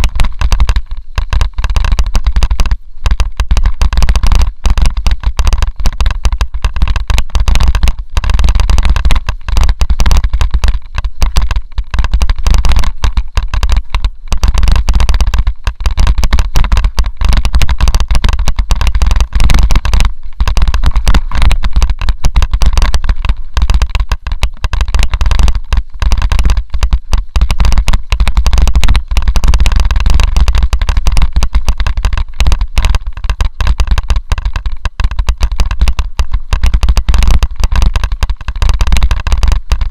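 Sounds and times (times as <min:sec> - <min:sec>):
bike clattering and knocking: 0:00.0 - 0:39.9
wind rumble on microphone: 0:00.0 - 0:39.9.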